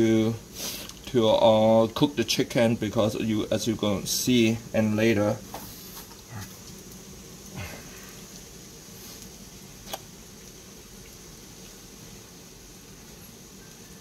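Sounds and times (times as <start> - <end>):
water boiling in a pot: 0.0 - 14.0.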